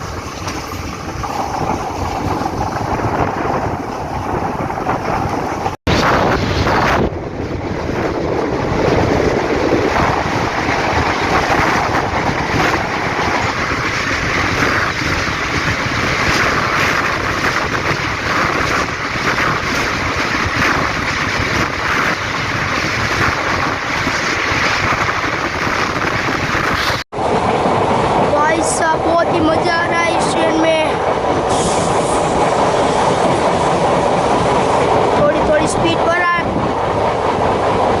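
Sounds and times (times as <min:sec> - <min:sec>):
train running noise: 0:00.0 - 0:38.0
wind buffeting microphone: 0:00.0 - 0:38.0.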